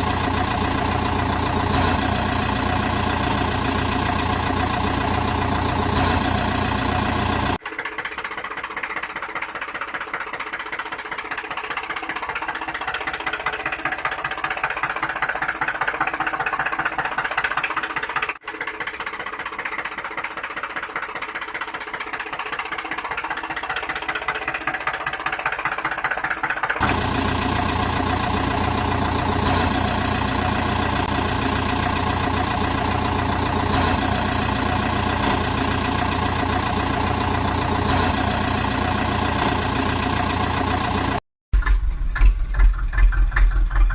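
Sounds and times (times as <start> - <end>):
rapidly clattering engine: 0.0 - 43.9
vehicle engine running: 0.0 - 43.9.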